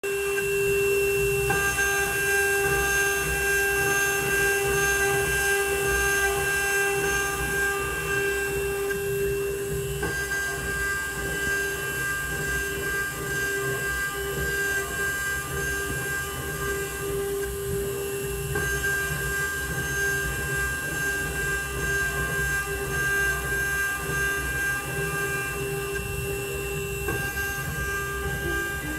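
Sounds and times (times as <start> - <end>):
milling machine cutting metal: 0.0 - 28.9.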